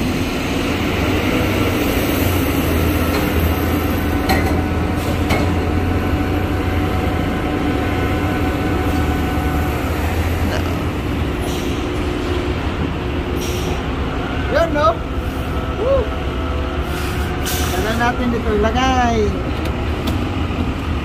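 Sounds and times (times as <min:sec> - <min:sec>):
ship machinery drone: 0:00.0 - 0:21.0.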